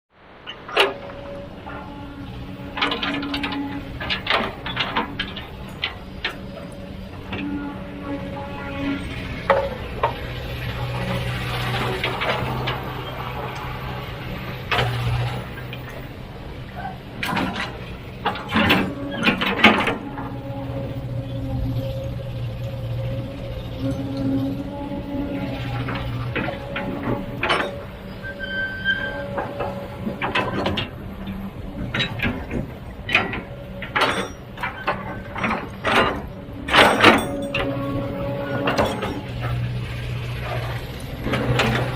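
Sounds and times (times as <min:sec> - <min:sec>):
heavy equipment engine droning: 0:00.1 - 0:41.9
metallic clanks and knocks: 0:00.5 - 0:41.9.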